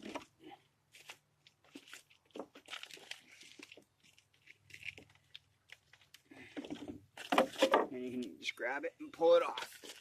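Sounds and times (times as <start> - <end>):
wood crackling and creaking: 0.0 - 10.0.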